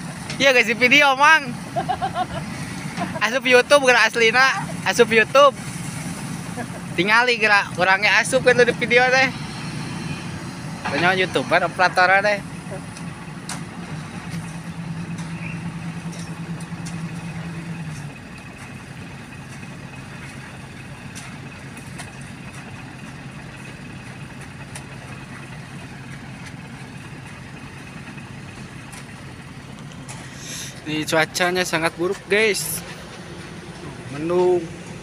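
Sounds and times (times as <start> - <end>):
heavy diesel engines running: 0.0 - 35.0
higher engine note: 1.2 - 35.0.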